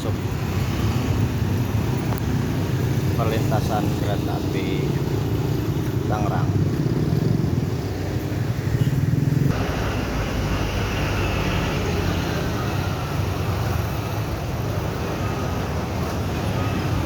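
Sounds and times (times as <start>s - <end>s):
car engines running: 0.0s - 17.0s
motorcycle engines running: 0.0s - 17.0s.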